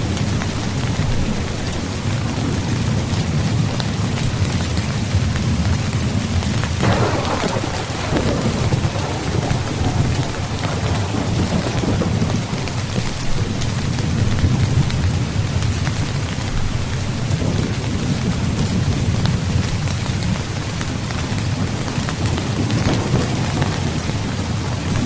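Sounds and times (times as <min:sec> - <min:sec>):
rain on a tent: 0:00.0 - 0:25.0
thunder rolling: 0:00.0 - 0:25.0.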